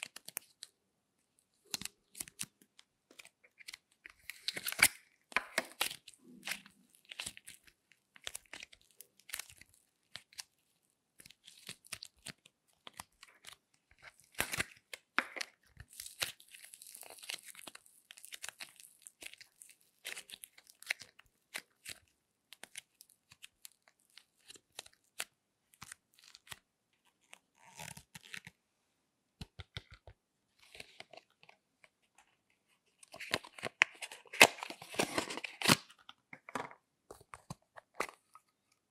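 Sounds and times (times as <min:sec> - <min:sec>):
clay tearing and squeezing: 0:00.0 - 0:00.8, 0:01.5 - 0:28.6, 0:29.4 - 0:38.9.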